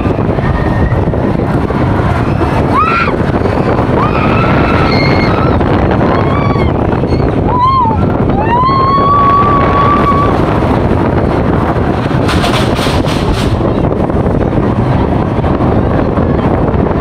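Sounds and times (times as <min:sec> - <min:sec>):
roller coaster rumbling on track: 0:00.0 - 0:17.0
wind rush over microphone: 0:00.0 - 0:17.0.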